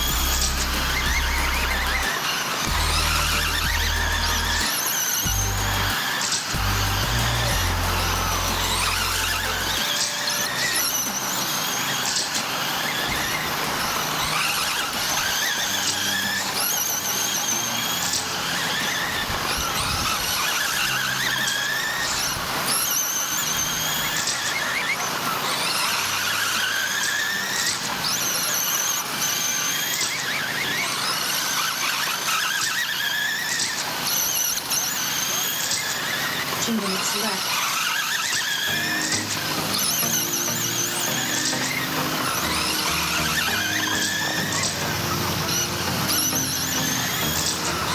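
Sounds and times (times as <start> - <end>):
rc truck motors whining: 0.0 - 47.9.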